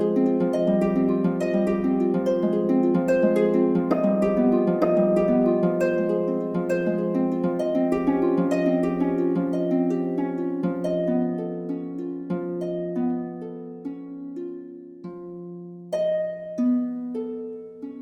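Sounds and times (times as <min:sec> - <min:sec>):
plucked string melody: 0:00.0 - 0:18.0.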